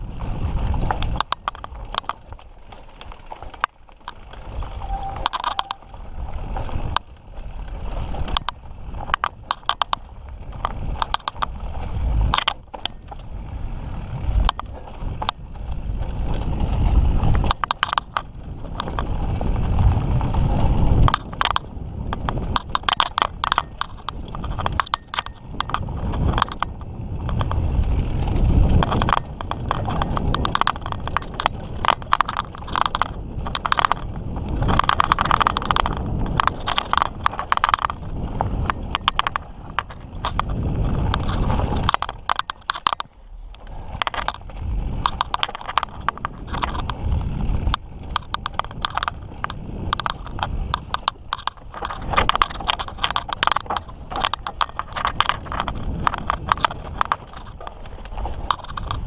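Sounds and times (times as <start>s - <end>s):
bike chain and frame rattling: 0.0s - 59.0s
wind rumble on microphone: 0.0s - 59.0s.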